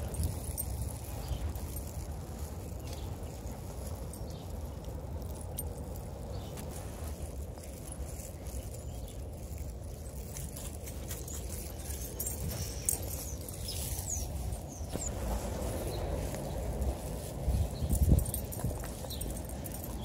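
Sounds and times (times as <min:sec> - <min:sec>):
light pattering and clicking: 0:00.0 - 0:20.0.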